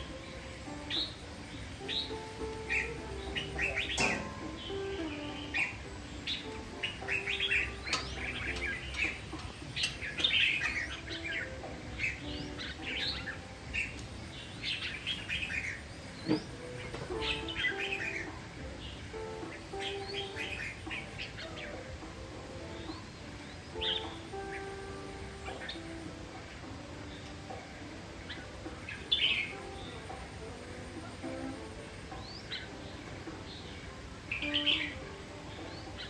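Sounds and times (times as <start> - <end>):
bird chirping: 0.0 - 36.0
faint background music: 0.0 - 36.0.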